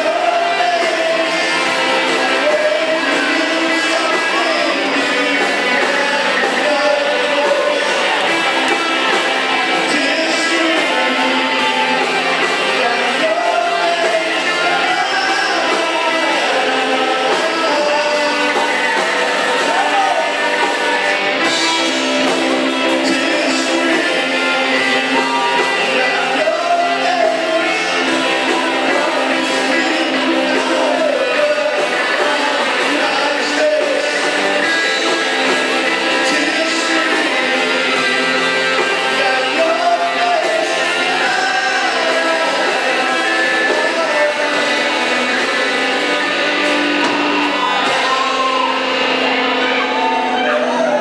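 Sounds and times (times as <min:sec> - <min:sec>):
electric guitar: 0:00.0 - 0:51.0
live rock band playing: 0:00.0 - 0:51.0
person singing: 0:00.0 - 0:51.0.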